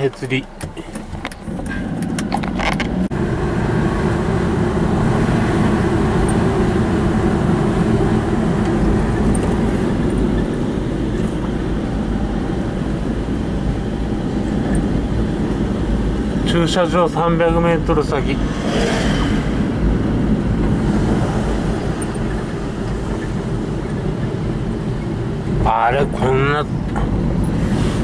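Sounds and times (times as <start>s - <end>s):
car engine hum: 0.0s - 28.0s.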